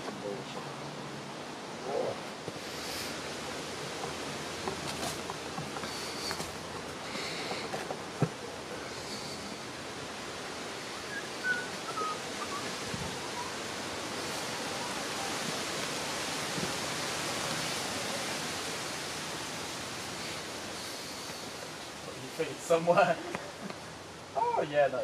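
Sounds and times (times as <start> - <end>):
rushing outdoor ambience: 0.0 - 25.0.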